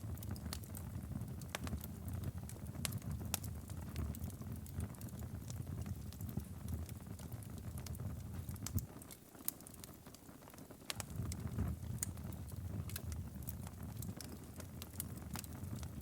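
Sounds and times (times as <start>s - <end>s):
low rumble of flames: 0.0s - 9.9s, 10.6s - 16.0s
wood fire crackling and popping: 0.0s - 16.0s.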